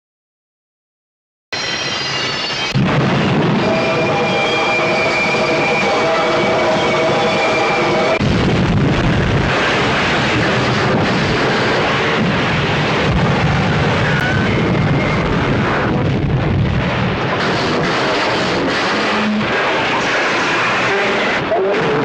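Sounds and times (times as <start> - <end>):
crashing and rumbling: 2.6 - 22.0.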